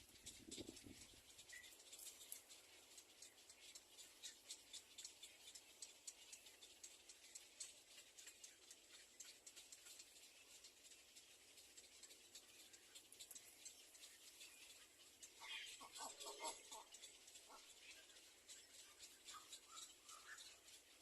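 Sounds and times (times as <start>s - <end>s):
baby bird scratching and clicking: 0.0s - 21.0s
soft bird chirp: 0.0s - 21.0s.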